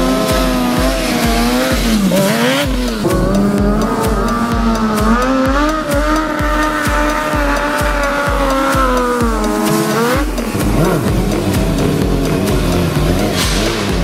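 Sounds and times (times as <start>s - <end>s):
motorbike engine revving high: 0.0s - 14.0s
music with steady beat: 0.0s - 14.0s.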